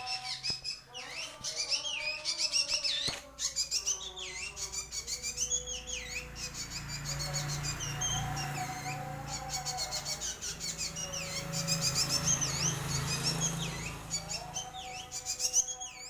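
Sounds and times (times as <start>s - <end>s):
bird whistling chirping calls: 0.0s - 16.0s.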